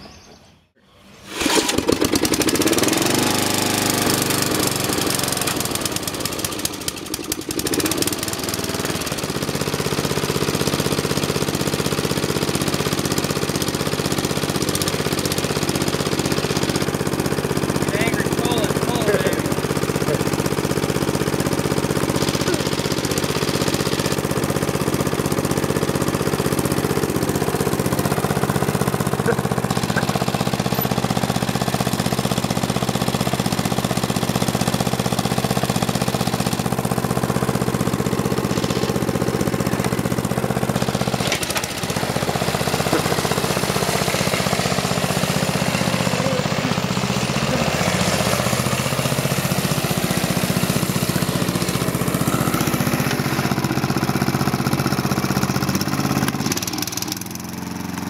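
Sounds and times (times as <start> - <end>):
riding mower engine running: 0.0 - 58.0.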